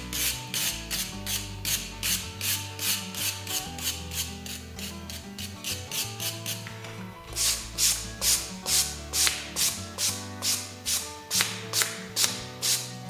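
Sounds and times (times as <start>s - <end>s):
bristle brush swishing on brick: 0.0s - 6.7s, 7.3s - 13.0s
wire brush strokes on brick: 0.0s - 6.7s, 7.3s - 13.0s
background music: 0.0s - 13.0s.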